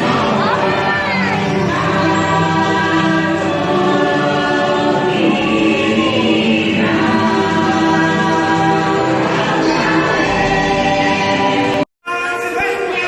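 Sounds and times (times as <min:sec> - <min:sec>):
choir singing held notes: 0:00.0 - 0:11.9
musical accompaniment: 0:00.0 - 0:13.0.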